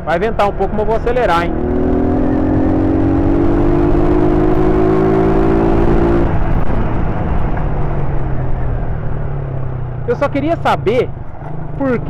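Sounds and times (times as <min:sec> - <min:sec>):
wind rumbling on microphone: 0:00.0 - 0:10.1
motorcycle engine accelerating: 0:00.0 - 0:12.0.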